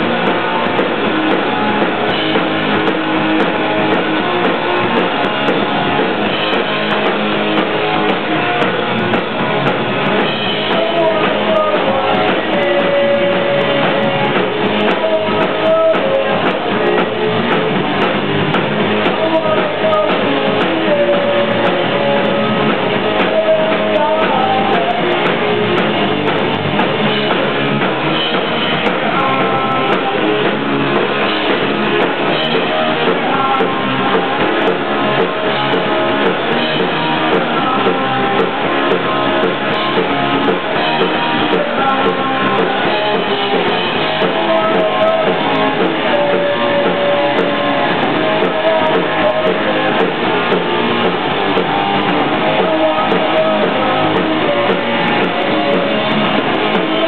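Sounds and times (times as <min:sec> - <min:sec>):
man singing: 0:00.0 - 0:25.9, 0:27.2 - 0:57.0
drum kit: 0:00.0 - 0:57.0
electric guitar: 0:00.0 - 0:57.0.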